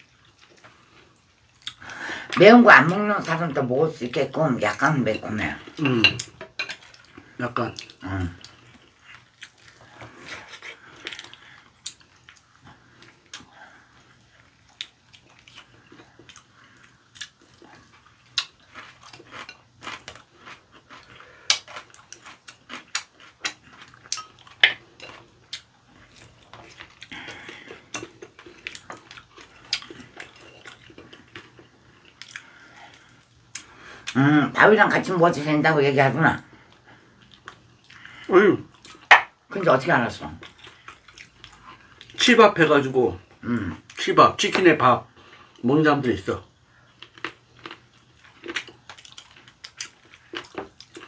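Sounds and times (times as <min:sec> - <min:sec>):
soft chewing: 0:00.0 - 0:03.6, 0:04.7 - 0:34.3, 0:36.4 - 0:39.2, 0:40.3 - 0:42.3, 0:46.5 - 0:51.0.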